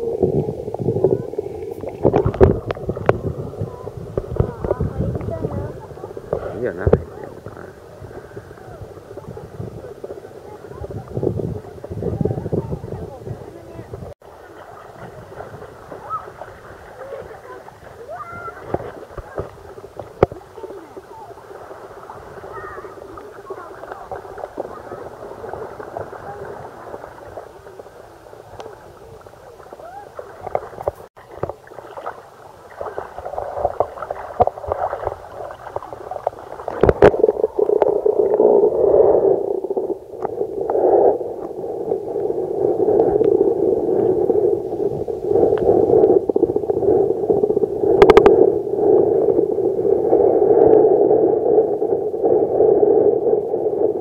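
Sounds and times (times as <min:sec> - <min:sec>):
muffled underwater rushing: 0:00.0 - 0:54.0.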